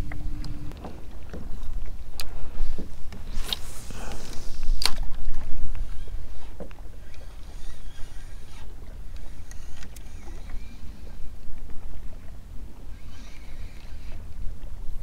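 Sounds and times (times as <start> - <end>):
low rumble of water and air: 0.0 - 15.0.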